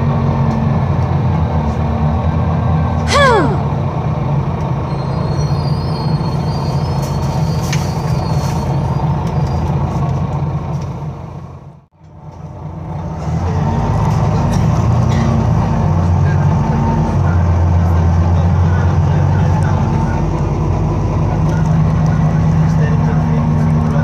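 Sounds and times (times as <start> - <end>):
bus diesel engine drone: 0.0 - 24.0
road noise: 0.0 - 24.0.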